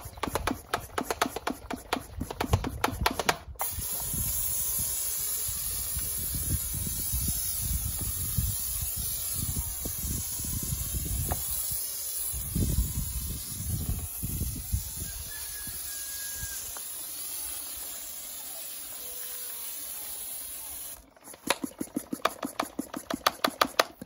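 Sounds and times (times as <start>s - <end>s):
foam sprayer hissing: 3.6s - 23.8s.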